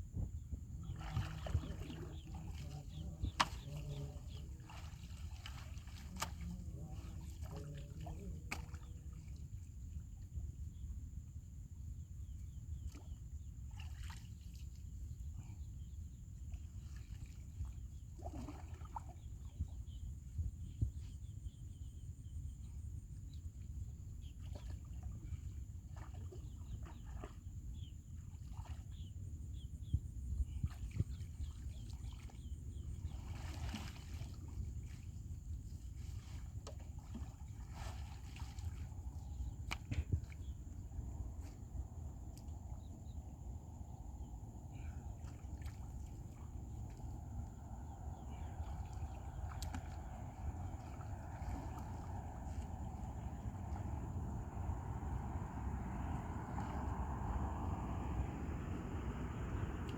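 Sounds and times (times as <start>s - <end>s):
water sloshing and trickling: 0.1s - 59.9s.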